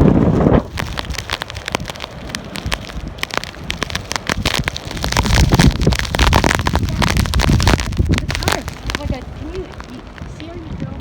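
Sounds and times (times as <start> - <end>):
wind gusting across microphone: 0.0 - 11.0
sharp crackling ticks: 0.7 - 10.5.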